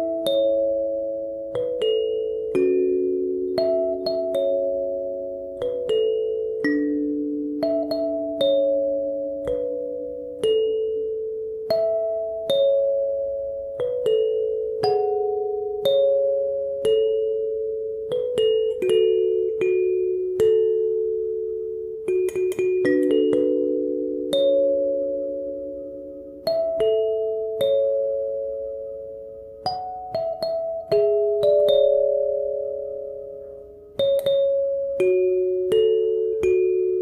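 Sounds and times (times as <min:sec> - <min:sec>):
kalimba slow melody: 0:00.0 - 0:37.0.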